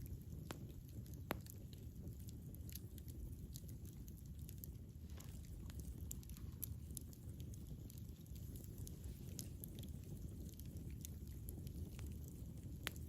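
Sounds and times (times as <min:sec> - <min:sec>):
campfire crackling and popping: 0:00.0 - 0:13.0
low rumble of flames: 0:00.0 - 0:13.0.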